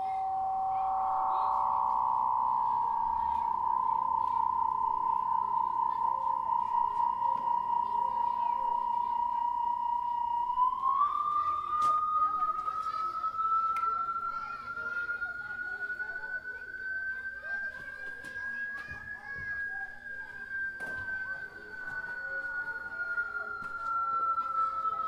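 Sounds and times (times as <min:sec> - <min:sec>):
electronic whistle-like tone: 0:00.0 - 0:25.0
fainter higher electronic tone: 0:00.0 - 0:25.0.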